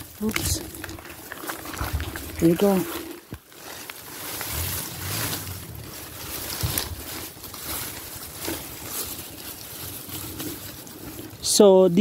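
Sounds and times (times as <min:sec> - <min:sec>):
tall grass rustling: 0:00.0 - 0:12.0.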